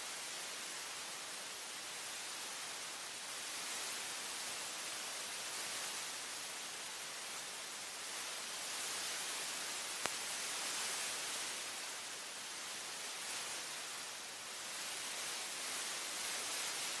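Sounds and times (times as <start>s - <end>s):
electronic noise hiss: 0.0s - 17.0s.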